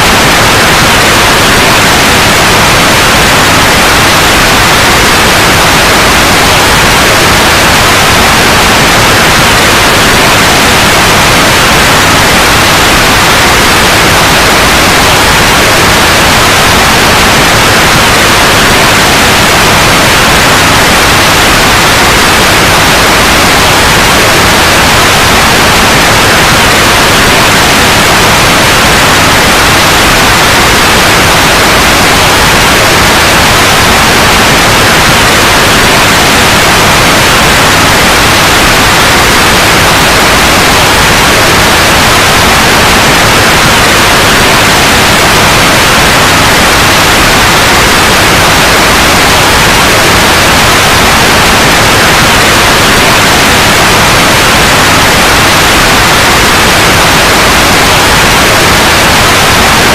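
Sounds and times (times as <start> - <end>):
loud white noise: 0.0 - 59.9.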